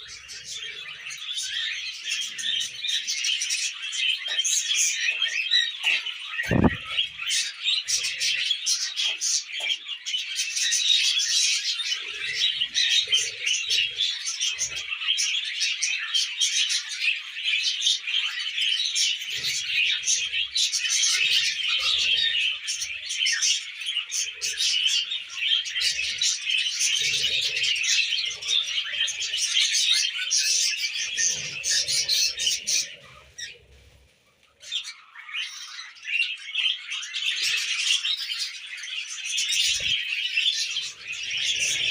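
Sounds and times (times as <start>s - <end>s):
budgerigars chattering and warbling: 0.0s - 34.0s, 34.6s - 41.9s.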